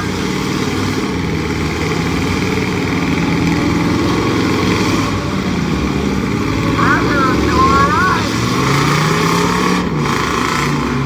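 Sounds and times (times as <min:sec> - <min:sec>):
truck engine running hard: 0:00.0 - 0:11.0.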